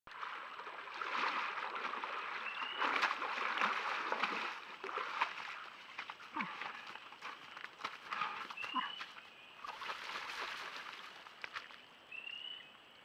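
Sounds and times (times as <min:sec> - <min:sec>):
bear splashing through water: 0:00.1 - 0:11.8.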